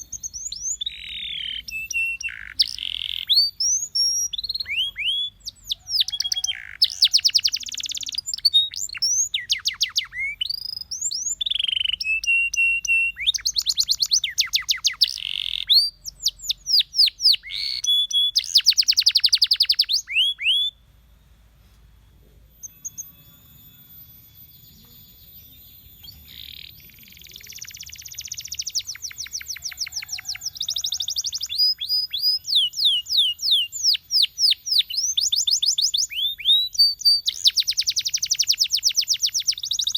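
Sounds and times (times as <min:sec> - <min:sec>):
canary singing trills: 0:00.0 - 0:21.4, 0:22.0 - 0:39.9.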